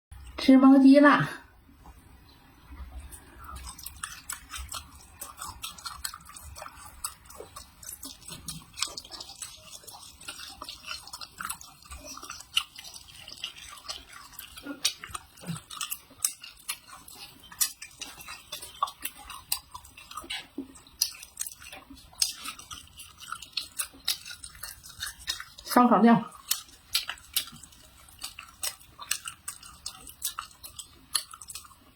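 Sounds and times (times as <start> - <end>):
crunchy chewing: 2.6 - 31.9.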